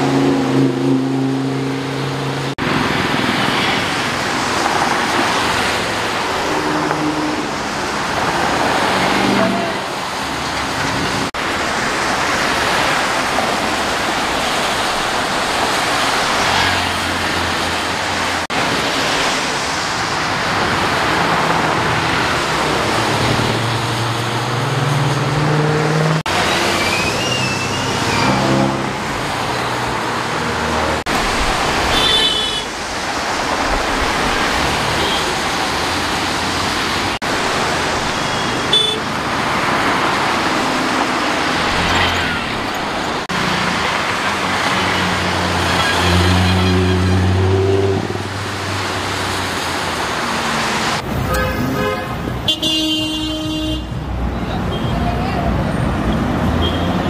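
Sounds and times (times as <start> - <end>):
car engines passing: 0.0 - 57.0
tyres hissing on wet road: 2.6 - 24.9, 26.2 - 53.8.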